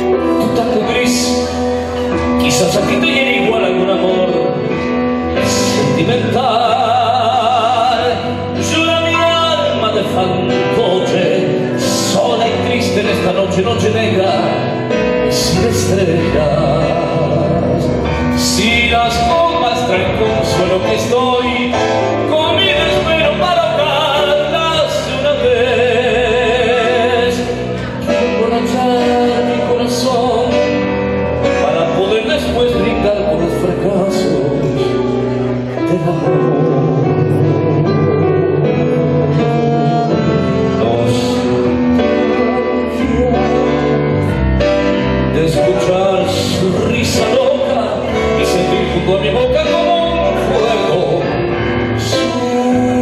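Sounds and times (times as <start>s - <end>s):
digital piano: 0.0s - 53.0s
man singing into microphone: 0.0s - 53.0s.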